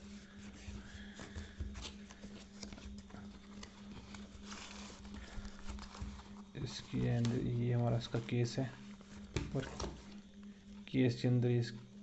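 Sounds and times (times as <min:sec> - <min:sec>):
cardboard box packaging handled: 0:00.0 - 0:10.3
low electrical hum: 0:00.0 - 0:12.0.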